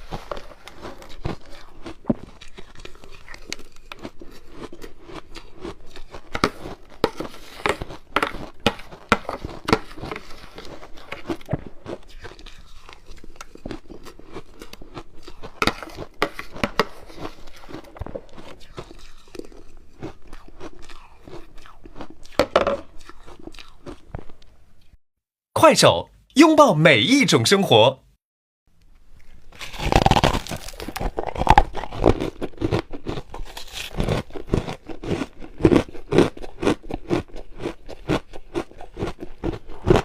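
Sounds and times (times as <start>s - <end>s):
ice being chewed: 0.0s - 25.0s, 28.9s - 40.0s.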